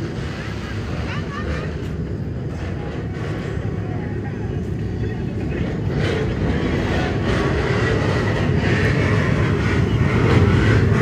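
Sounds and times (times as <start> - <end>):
vehicle engines and road noise: 0.0 - 11.0.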